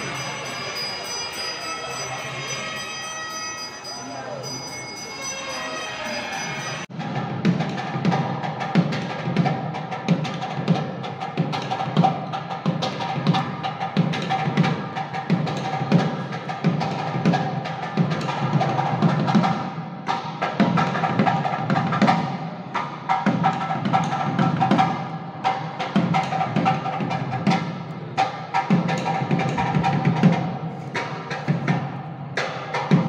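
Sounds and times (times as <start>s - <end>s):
percussion strikes: 0.0s - 33.0s.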